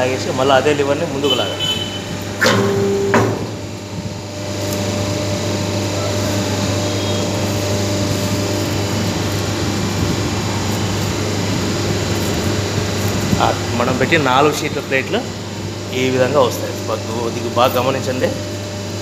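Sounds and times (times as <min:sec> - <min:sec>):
hydraulic machine motor humming: 0:00.0 - 0:19.0.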